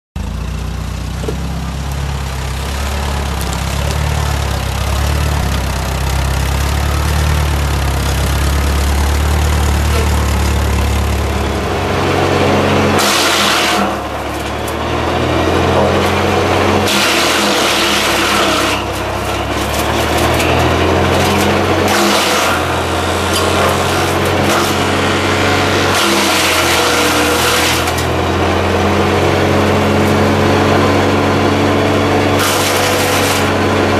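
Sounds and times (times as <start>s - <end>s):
tractor engine running: 0.2s - 33.9s
wood chipper chewing branches: 0.2s - 33.9s.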